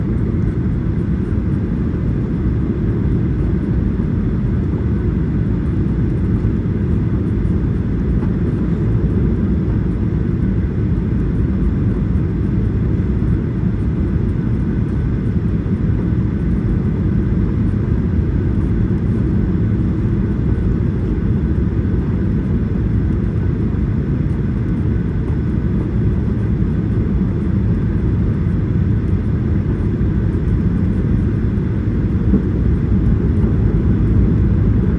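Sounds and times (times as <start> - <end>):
airliner cabin rumble: 0.0 - 34.9.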